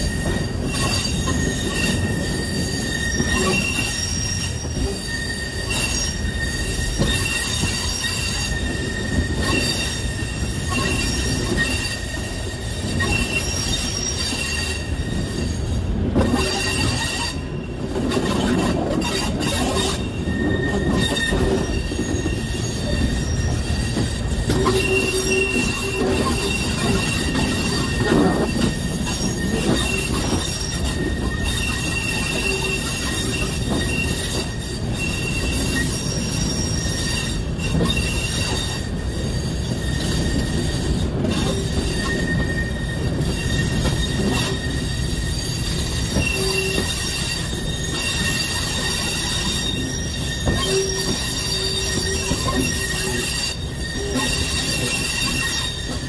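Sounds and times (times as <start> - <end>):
train wheels rumbling: 0.0 - 56.0
wheels squealing: 0.0 - 56.0.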